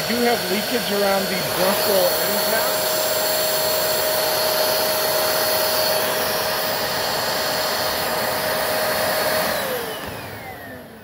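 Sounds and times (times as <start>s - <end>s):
vacuum motor whining: 0.0s - 11.0s.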